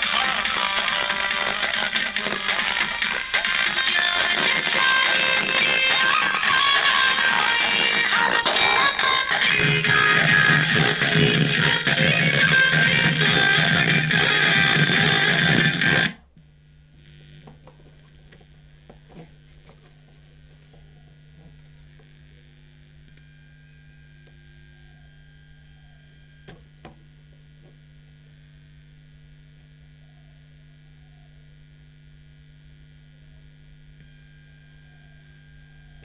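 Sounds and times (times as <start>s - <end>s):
low mains hum: 0.0s - 36.0s.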